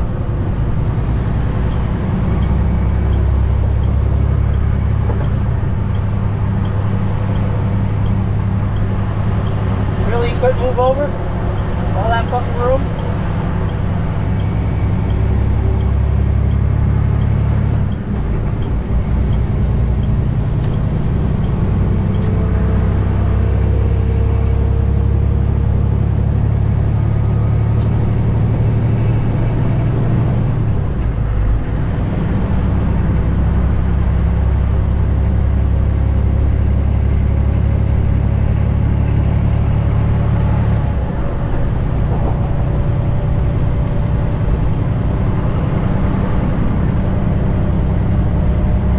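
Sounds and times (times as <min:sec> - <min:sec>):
diesel truck engine under load: 0:00.0 - 0:48.9.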